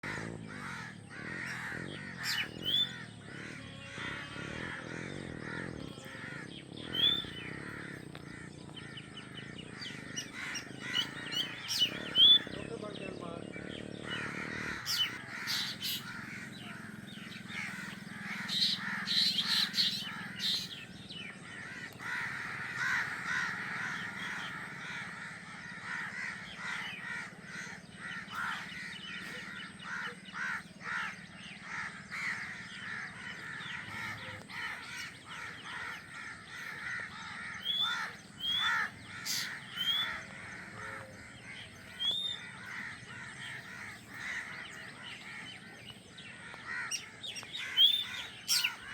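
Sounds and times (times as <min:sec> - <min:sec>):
chicks begging calls: 0:00.0 - 0:48.9.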